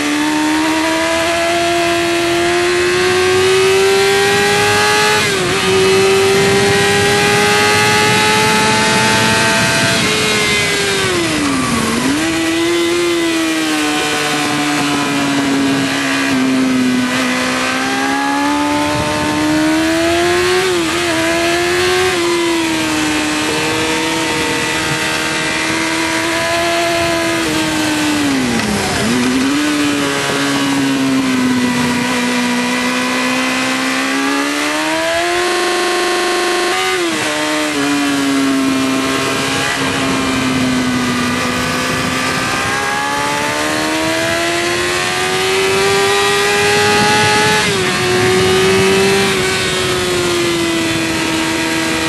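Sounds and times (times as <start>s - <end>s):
motorcycle engine at high revs: 0.0s - 52.0s
wind noise: 0.0s - 52.0s.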